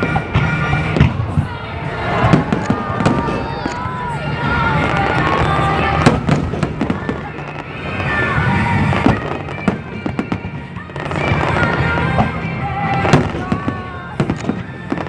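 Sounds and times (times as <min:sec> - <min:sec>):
fireworks bangs: 0:00.0 - 0:15.0
music playing: 0:00.0 - 0:15.0.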